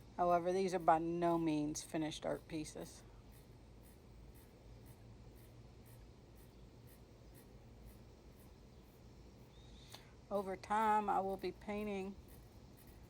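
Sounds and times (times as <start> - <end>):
low steady hum: 0.0 - 13.0
paintbrush scratching on paper: 0.3 - 9.1, 10.4 - 13.0.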